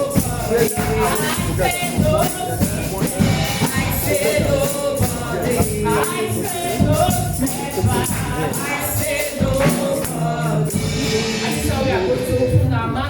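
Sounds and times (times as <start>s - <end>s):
tambourine beat: 0.0s - 12.6s
people singing gospel: 0.0s - 13.0s.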